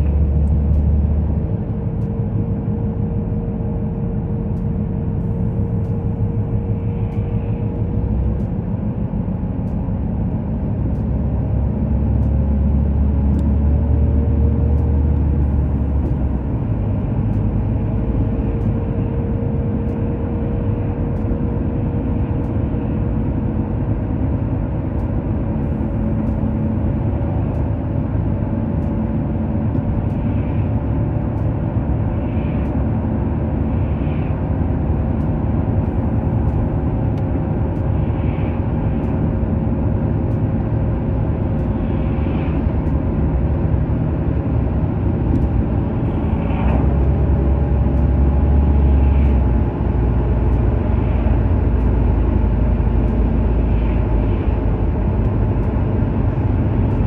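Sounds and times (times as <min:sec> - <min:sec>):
tyre and engine rumble: 0:00.0 - 0:57.0.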